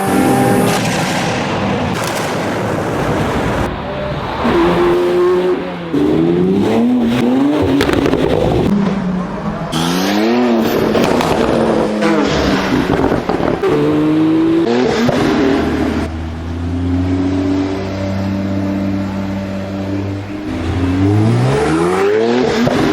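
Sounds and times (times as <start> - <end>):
exhaust crackles: 0.0 - 22.9
sports car engine revving: 0.0 - 22.9.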